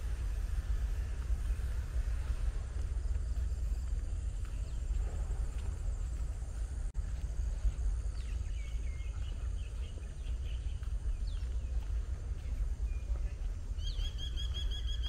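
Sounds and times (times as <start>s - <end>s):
footsteps on a path: 0.0s - 15.0s
small birds chirping: 0.0s - 15.0s
steady low rumble: 0.0s - 15.0s.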